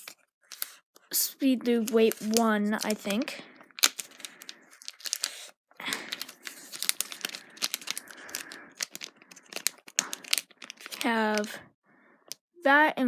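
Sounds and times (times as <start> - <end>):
packaging crinkling and tearing: 0.0 - 0.8, 1.8 - 11.6.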